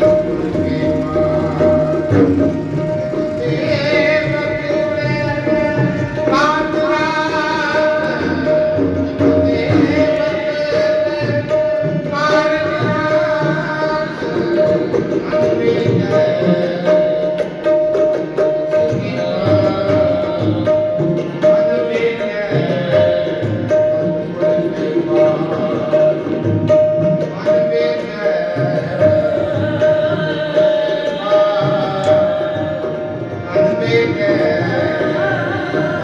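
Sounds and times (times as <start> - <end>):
tabla: 0.0 - 36.0.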